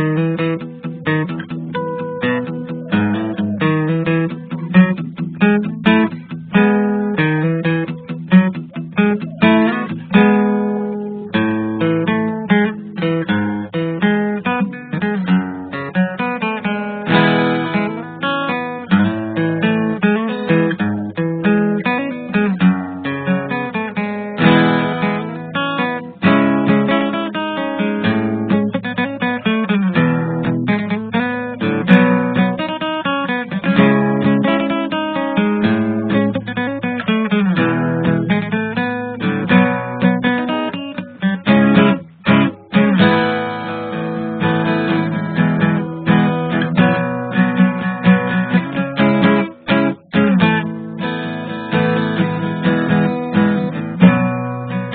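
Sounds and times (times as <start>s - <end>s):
acoustic guitar music: 0.0s - 54.9s.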